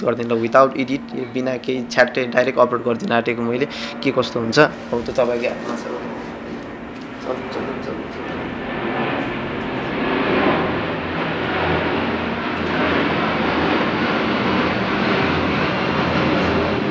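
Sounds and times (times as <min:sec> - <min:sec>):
engine-like rumble: 0:00.0 - 0:16.9
low hum: 0:00.0 - 0:16.9.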